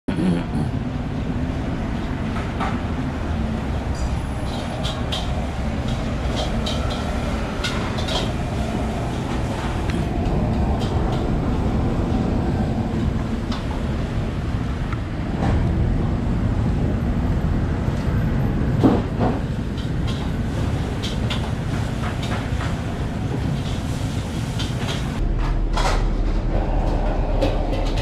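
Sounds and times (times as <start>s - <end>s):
street traffic rumble: 0.1s - 28.0s.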